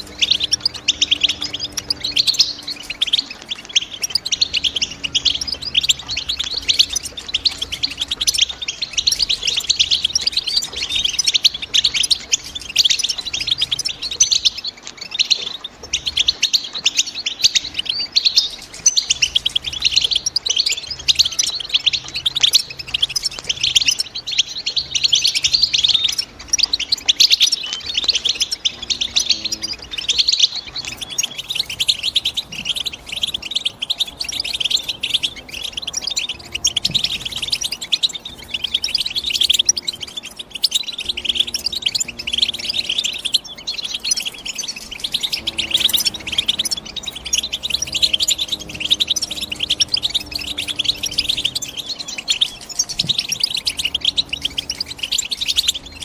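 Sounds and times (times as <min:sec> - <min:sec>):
goldfinch twittering song: 0:00.0 - 0:56.0.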